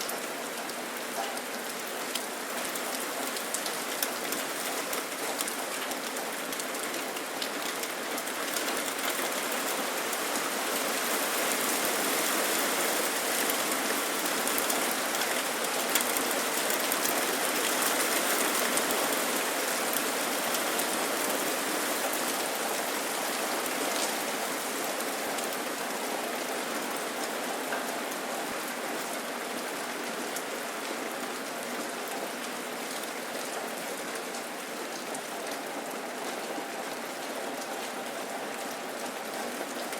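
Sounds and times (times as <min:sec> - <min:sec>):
raindrops pattering on surfaces: 0:00.0 - 0:39.9
steady rain: 0:00.0 - 0:39.9.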